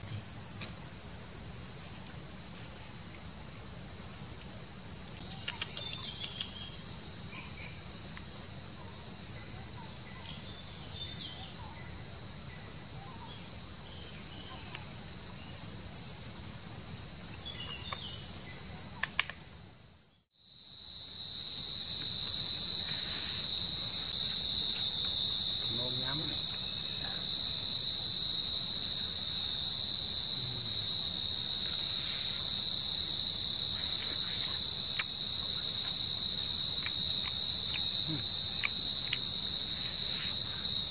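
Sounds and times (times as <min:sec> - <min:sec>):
forest insects chorus: 0:00.0 - 0:40.9.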